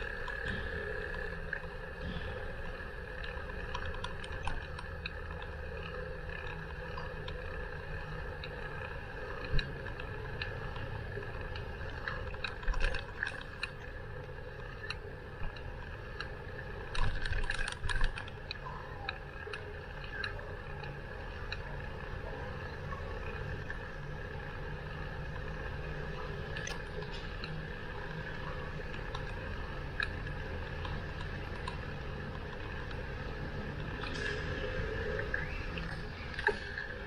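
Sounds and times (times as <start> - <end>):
bicycle rolling rumble: 0.0 - 37.0
bike rattling over bumps: 0.0 - 37.0.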